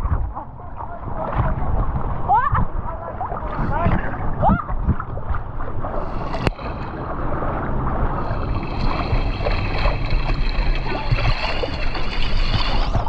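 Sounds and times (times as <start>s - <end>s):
rushing splashing water: 0.0s - 13.0s
wind buffeting microphone: 0.0s - 13.0s.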